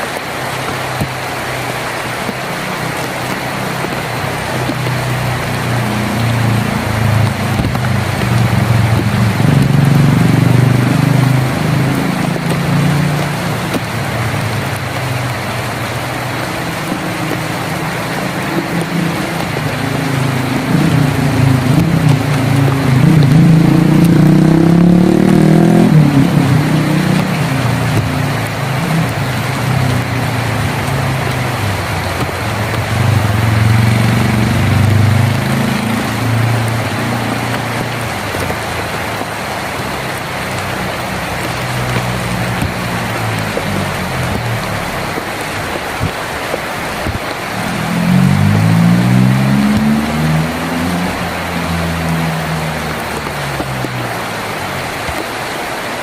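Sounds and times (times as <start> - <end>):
rain on a tin roof: 0.0 - 56.0
weaker engine sound: 0.0 - 56.0
passing vehicle engine: 2.7 - 56.0.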